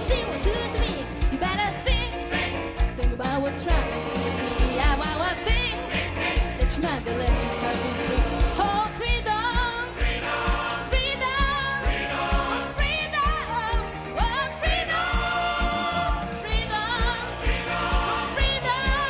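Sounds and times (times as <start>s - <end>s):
band with steady drum beat: 0.0s - 19.0s
choir singing: 2.0s - 2.9s, 3.8s - 19.0s.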